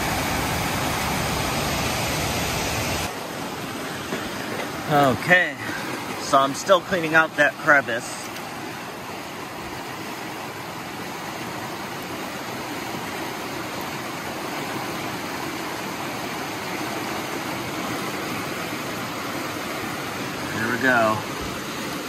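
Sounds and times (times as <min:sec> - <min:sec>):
creek water rushing over rocks: 0:00.0 - 0:22.0.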